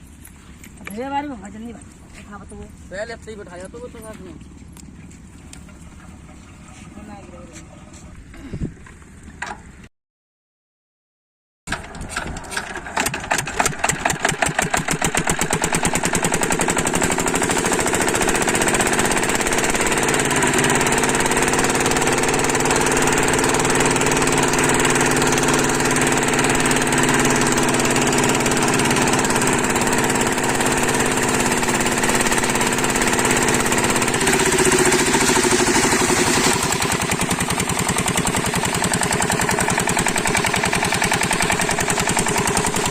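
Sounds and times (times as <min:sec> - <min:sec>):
diesel engine starting and running: 0:00.0 - 0:09.9, 0:11.7 - 0:42.9.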